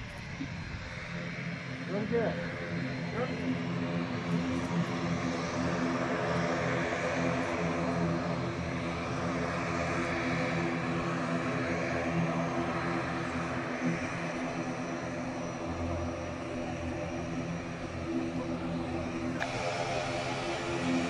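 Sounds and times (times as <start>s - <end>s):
airplane engines droning: 0.0s - 21.0s.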